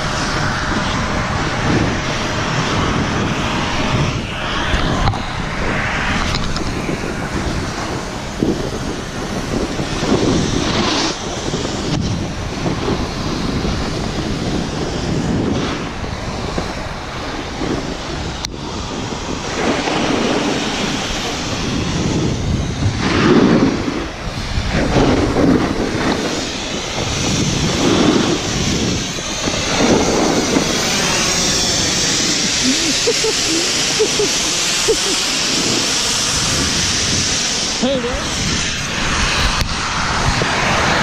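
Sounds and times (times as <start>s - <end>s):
snowboard edge scraping snow: 0.0s - 41.0s
wind buffeting microphone: 0.0s - 41.0s.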